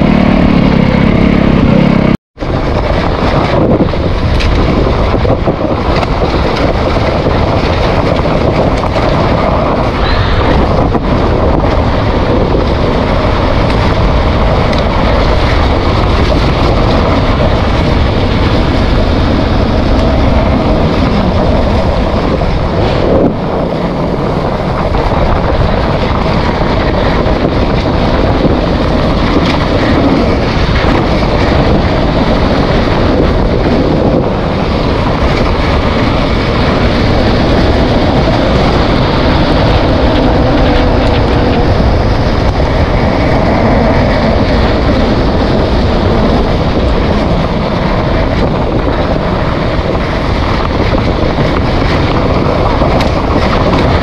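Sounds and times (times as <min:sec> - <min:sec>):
dirt bike engine running: 0:00.0 - 0:54.0
wind buffeting microphone: 0:00.0 - 0:54.0.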